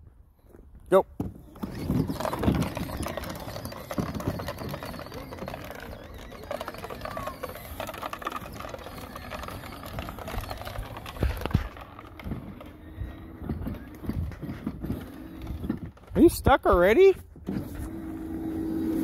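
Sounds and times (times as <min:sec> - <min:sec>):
plastic wheels rattling over dirt: 0:01.2 - 0:19.0
electric motors whirring: 0:01.3 - 0:16.2, 0:17.4 - 0:19.0.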